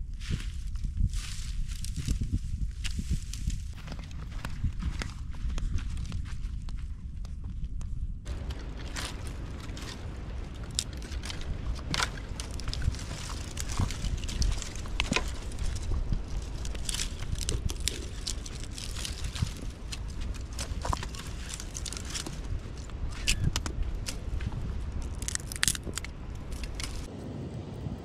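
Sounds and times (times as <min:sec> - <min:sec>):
steady low rumble: 0:00.0 - 0:28.0
twigs snapping and crackling: 0:02.8 - 0:07.4, 0:08.3 - 0:27.1.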